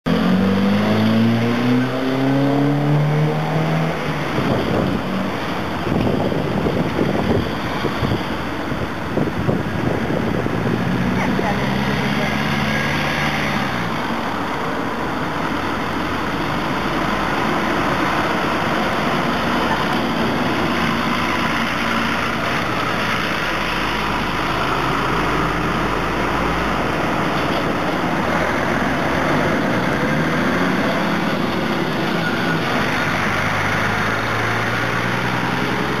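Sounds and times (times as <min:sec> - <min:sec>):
cars driving past: 0:00.1 - 0:36.0
deep lorry engine hum: 0:00.1 - 0:36.0.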